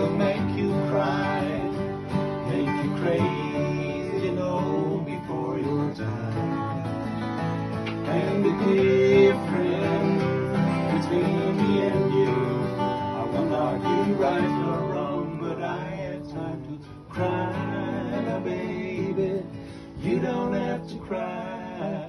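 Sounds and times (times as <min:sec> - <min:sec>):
men singing: 0:00.0 - 0:07.0, 0:07.8 - 0:22.0
acoustic guitars strummed: 0:00.0 - 0:22.0.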